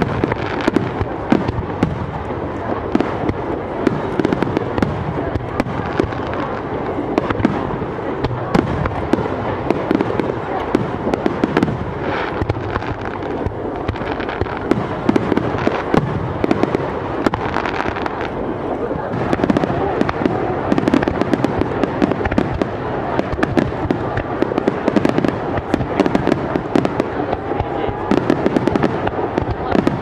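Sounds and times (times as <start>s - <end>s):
continuous rumble: 0.0s - 30.0s
fireworks bangs and crackles: 0.0s - 30.0s.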